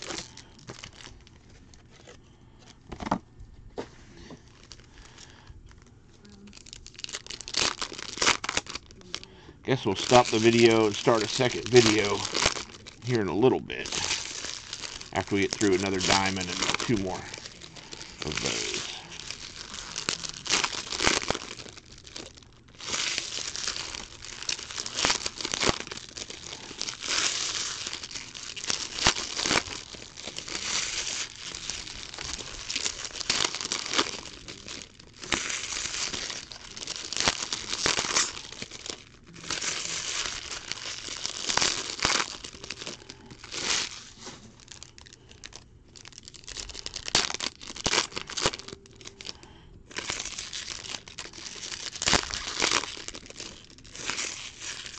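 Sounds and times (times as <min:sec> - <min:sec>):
foil wrappers crinkling and tearing: 0:00.0 - 0:03.2, 0:04.2 - 0:54.9.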